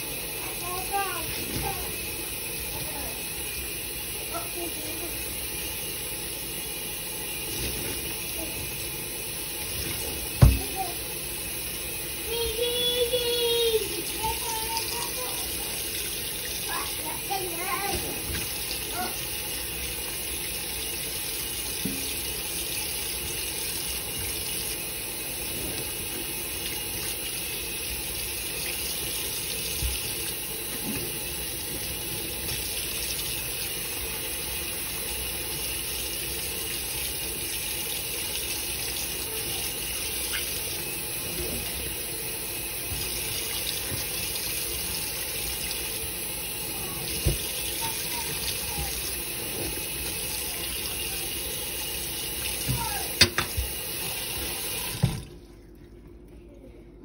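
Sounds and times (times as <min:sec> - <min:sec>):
tap water running into sink: 0:00.3 - 0:55.5.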